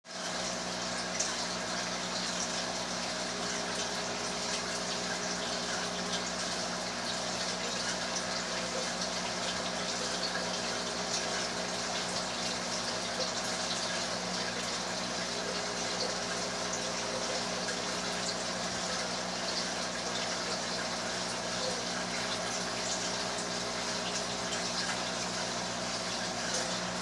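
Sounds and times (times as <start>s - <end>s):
three d printer whirring hum: 0.2s - 27.0s.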